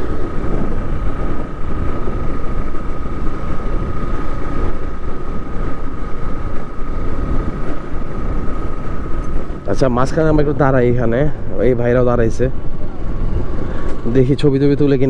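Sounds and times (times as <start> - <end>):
motorcycle engine running: 0.0 - 15.0
thin steady whine: 0.0 - 15.0
wind rushing on microphone: 0.0 - 15.0.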